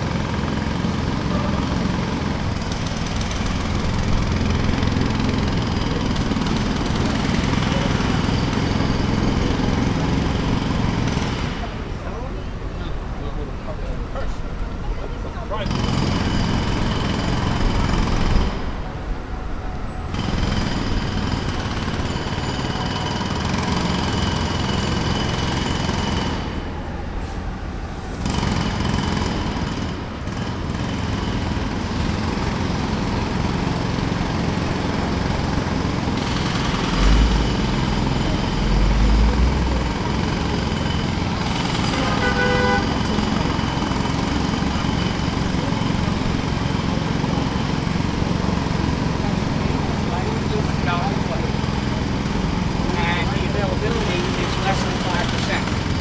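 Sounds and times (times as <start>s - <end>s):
jackhammer hammering: 0.0s - 12.2s, 15.6s - 18.9s, 20.1s - 27.0s, 28.2s - 56.0s
vehicle noise: 0.0s - 56.0s.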